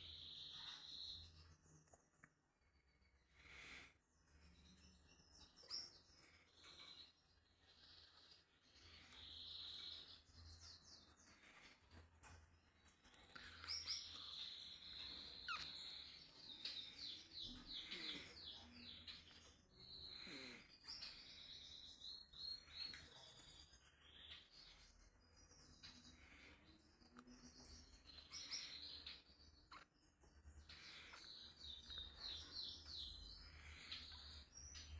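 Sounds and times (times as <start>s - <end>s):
small bird chirping: 0.0s - 34.9s.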